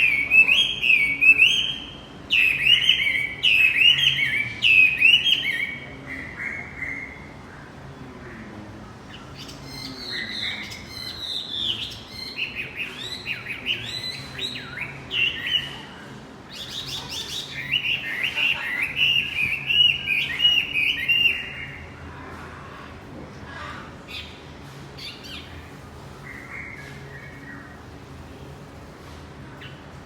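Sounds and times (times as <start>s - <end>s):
songbird singing: 0.0s - 22.0s, 24.1s - 28.1s.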